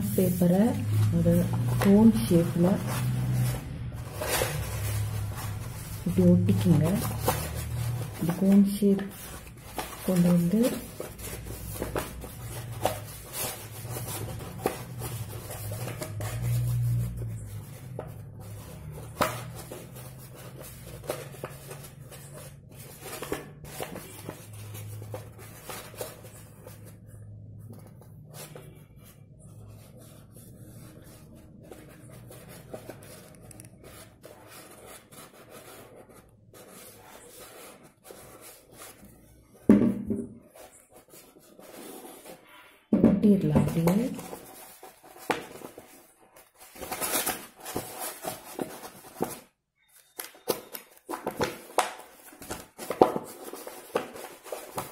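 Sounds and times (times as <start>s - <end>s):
paper rustling and crackling: 0.0s - 39.6s, 43.5s - 54.9s.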